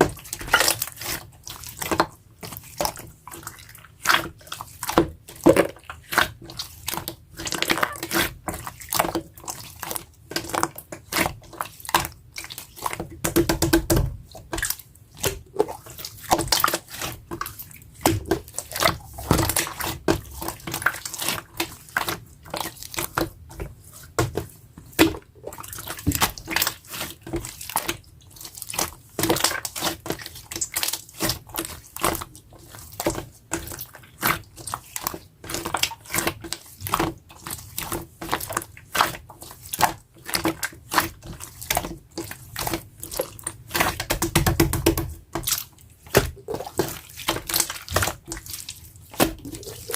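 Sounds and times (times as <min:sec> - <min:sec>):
slime squished by hand: 0:00.0 - 0:49.9.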